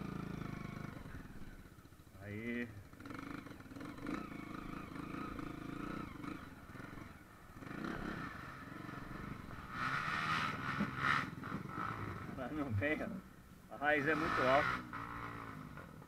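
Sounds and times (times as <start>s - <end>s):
dirt bike engine revving: 2.3s - 16.0s.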